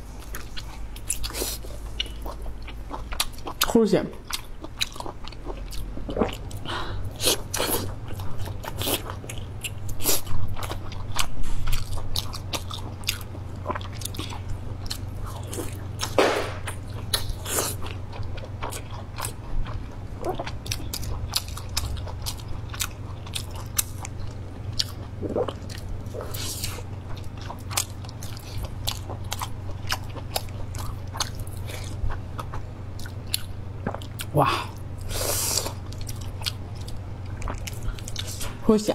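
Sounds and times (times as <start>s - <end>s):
chewing with wet mouth smacks: 0.2s - 38.6s.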